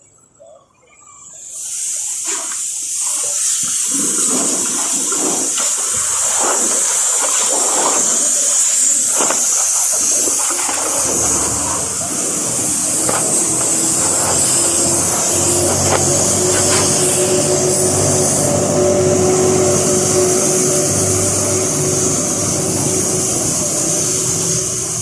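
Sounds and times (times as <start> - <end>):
high-pressure water jet spraying: 1.5 - 25.0.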